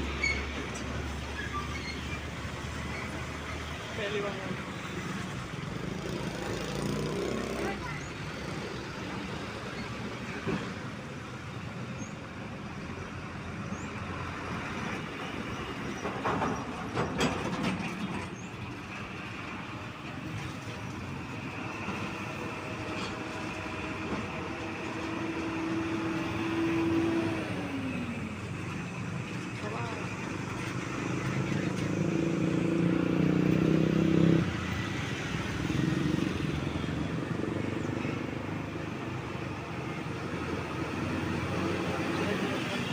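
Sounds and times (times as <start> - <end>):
heavy road vehicle engines: 0.0 - 42.9.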